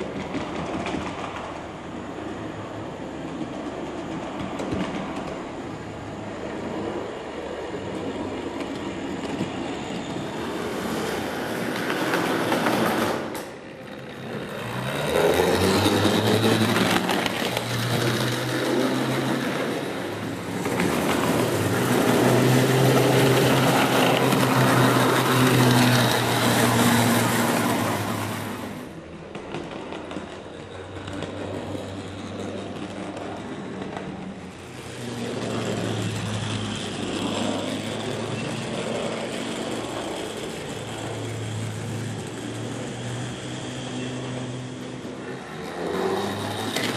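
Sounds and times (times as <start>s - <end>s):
model tram motors humming: 0.0s - 46.9s
wheels rattling over rails: 0.0s - 46.9s.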